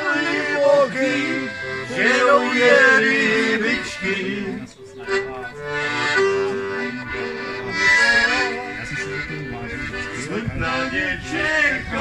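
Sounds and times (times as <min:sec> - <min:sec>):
accordion folk tune: 0:00.0 - 0:12.0.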